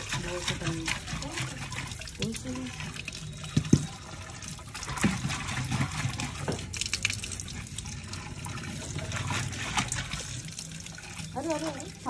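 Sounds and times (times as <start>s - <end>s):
hand scrubbing inside pot: 0.0s - 3.5s, 4.1s - 6.8s, 7.4s - 12.0s
water pouring into clay pot: 0.0s - 12.0s.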